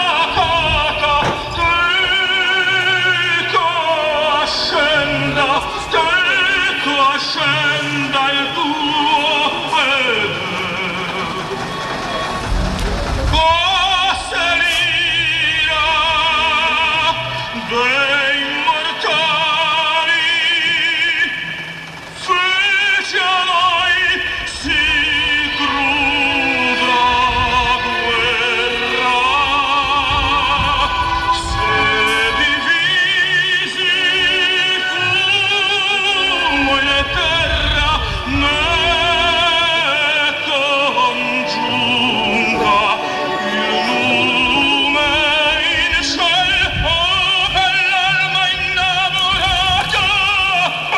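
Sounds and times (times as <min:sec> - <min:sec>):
operatic singing with vibrato: 0:00.0 - 0:50.9.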